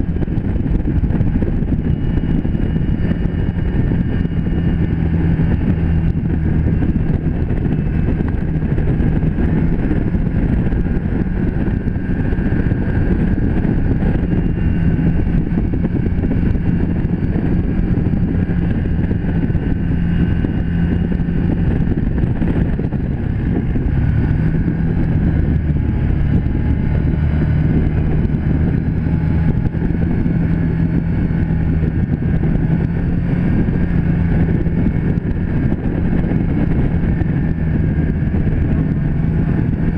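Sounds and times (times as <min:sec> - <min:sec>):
engine running at cruising speed: 0:00.0 - 0:39.9.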